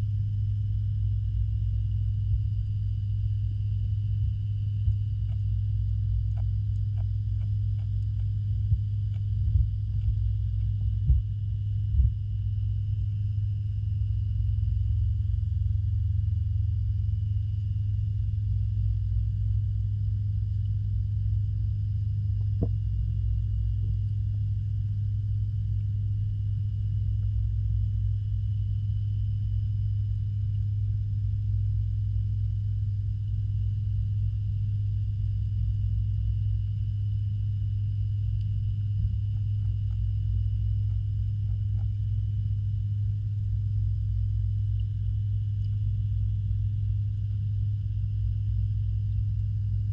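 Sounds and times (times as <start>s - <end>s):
pond pump humming underwater: 0.0s - 49.9s.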